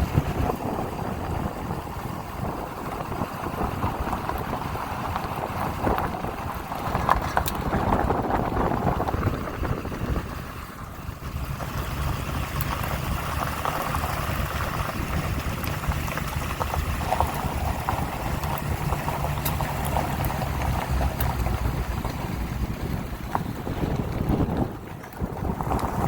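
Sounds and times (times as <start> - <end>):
low engine drone: 0.0 - 26.0
tyres crunching on gravel: 0.0 - 26.0.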